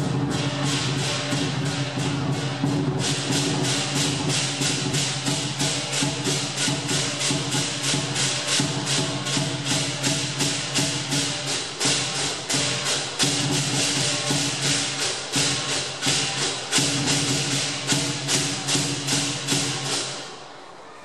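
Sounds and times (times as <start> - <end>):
drum beating: 0.0 - 20.4
cymbals clashing: 0.0 - 21.0.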